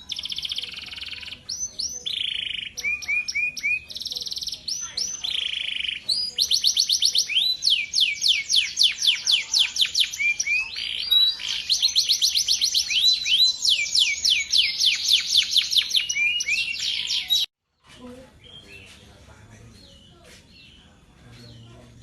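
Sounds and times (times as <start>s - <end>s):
canary singing trills: 0.0s - 22.0s.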